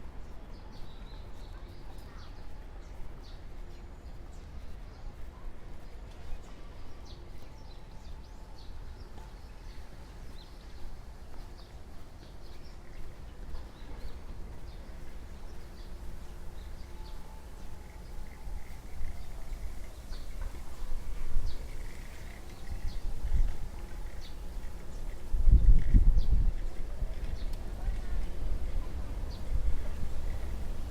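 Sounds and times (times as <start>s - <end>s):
small birds chirping: 0.2s - 30.9s
steady low rumble: 2.6s - 30.9s.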